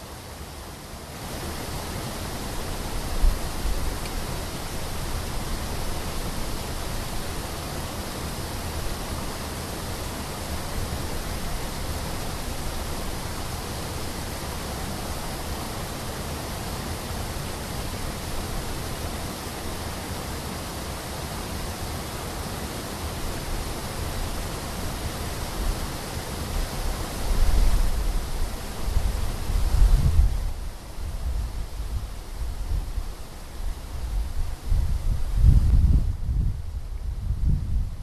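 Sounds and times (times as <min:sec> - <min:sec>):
steady rushing noise: 0:00.0 - 0:38.0.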